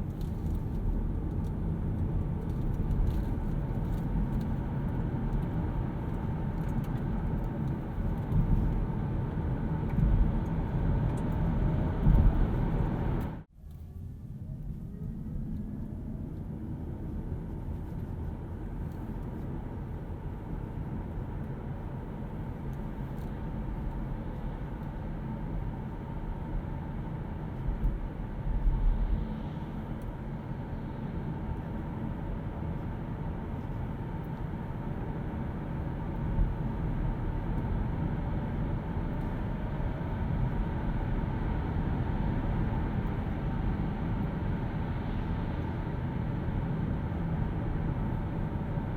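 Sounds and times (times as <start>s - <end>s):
road and tyre noise: 0.0s - 48.9s.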